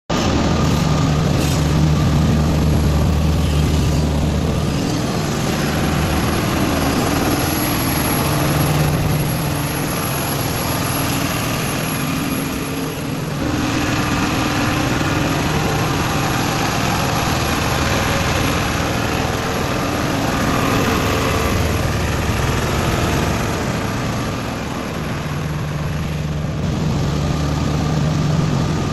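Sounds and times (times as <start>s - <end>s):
diesel generator droning: 0.1s - 28.9s.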